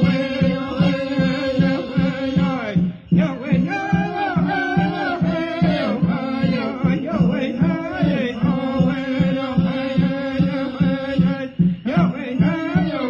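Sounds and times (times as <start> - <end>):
person chant-like singing: 0.0 - 13.0
steady drum beat: 0.0 - 13.0.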